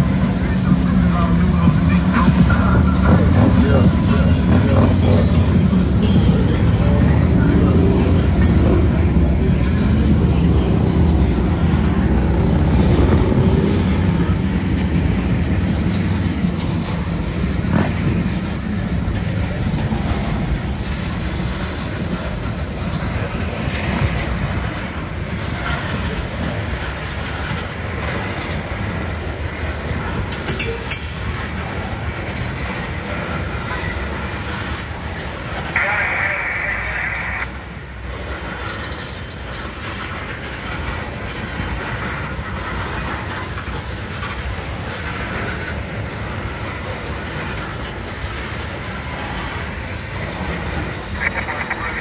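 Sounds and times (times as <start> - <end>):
train rumbling past: 0.0 - 52.0
wheels clacking over rail joints: 0.0 - 52.0.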